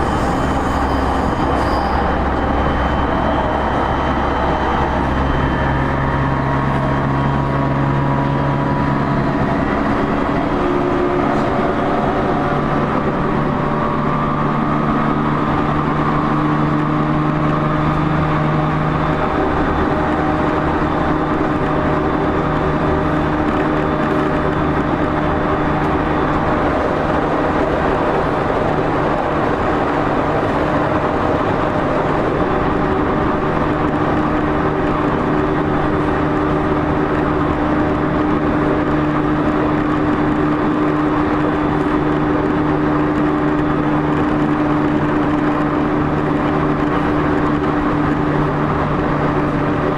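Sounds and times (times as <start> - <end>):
wheel and rail noise: 0.0 - 49.9.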